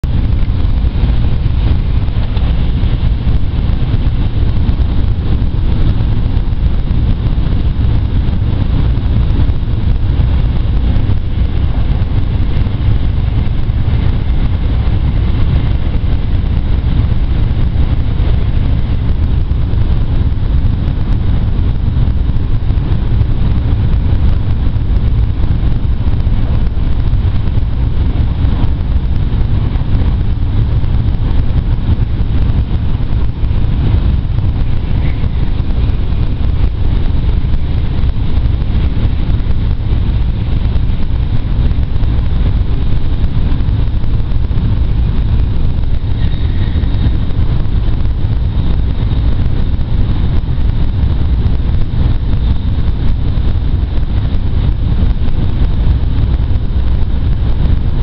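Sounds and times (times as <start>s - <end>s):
train cabin low rumble: 0.0s - 58.0s
wind and track hiss: 0.0s - 58.0s.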